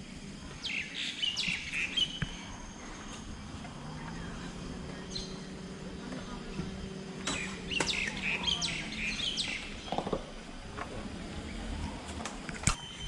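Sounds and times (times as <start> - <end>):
birds chirping: 0.0 - 12.1.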